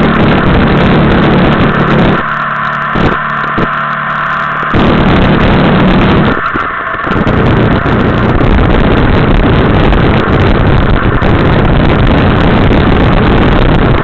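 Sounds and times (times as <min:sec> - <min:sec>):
motorcycle engine: 0:00.0 - 0:14.0
wind rush on microphone: 0:00.0 - 0:14.0.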